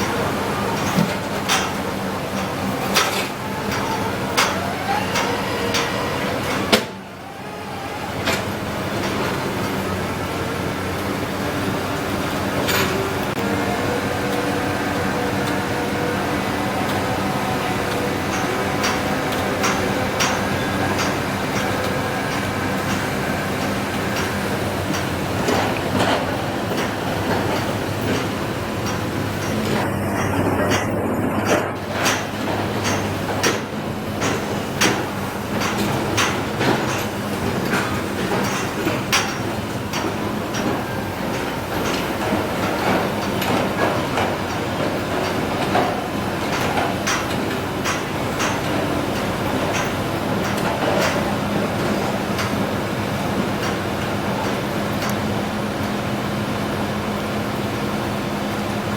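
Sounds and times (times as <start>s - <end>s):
drilling rig engine drone: 0.0s - 58.9s.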